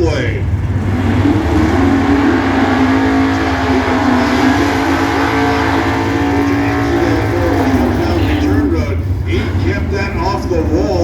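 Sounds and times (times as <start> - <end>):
drag racing cars at full throttle: 0.0 - 11.0.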